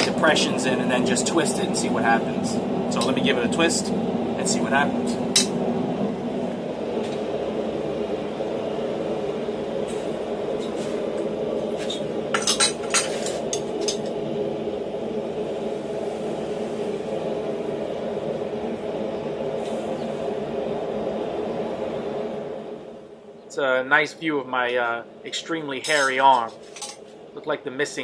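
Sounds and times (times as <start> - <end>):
steady background drone: 0.0 - 28.0.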